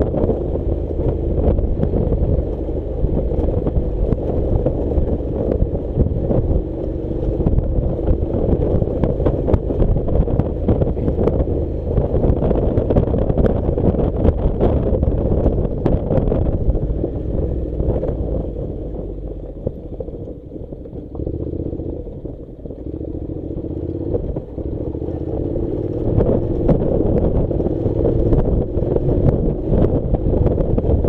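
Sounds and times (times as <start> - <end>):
motorcycle engine rumble: 0.0 - 31.0
wind buffeting microphone: 0.0 - 31.0.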